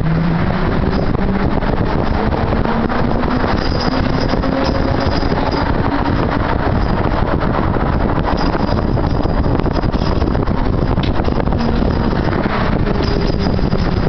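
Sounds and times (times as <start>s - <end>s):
trolleybus tyres rumbling on road: 0.0s - 14.0s.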